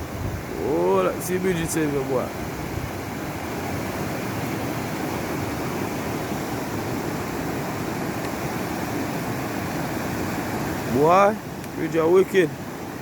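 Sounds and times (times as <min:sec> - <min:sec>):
floodwater rushing through a gully: 0:00.0 - 0:13.0.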